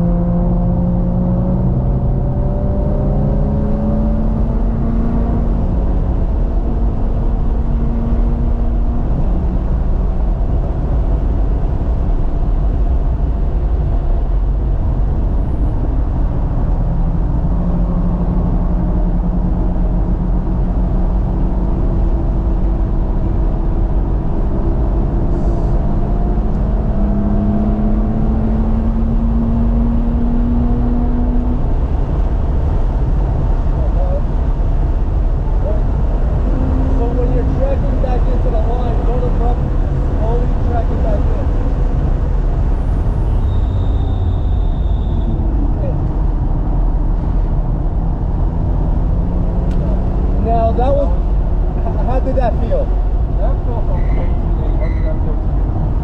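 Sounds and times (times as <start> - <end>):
car engine running hard: 0.0 - 56.0
road and wind rumble: 0.0 - 56.0.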